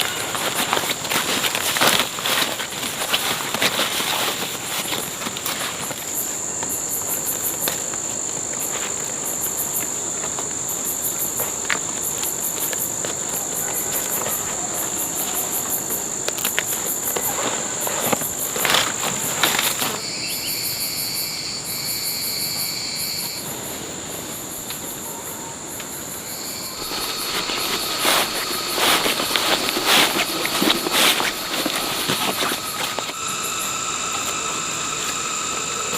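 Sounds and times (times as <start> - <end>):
insects chirping and droning: 0.0 - 35.9.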